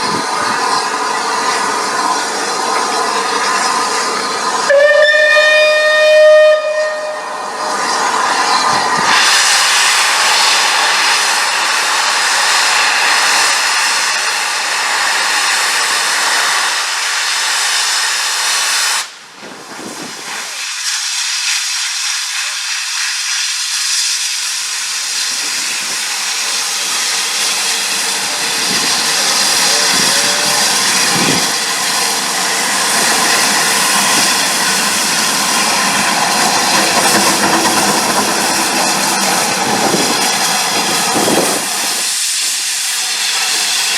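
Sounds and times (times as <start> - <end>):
steam locomotive hissing: 0.0 - 43.9.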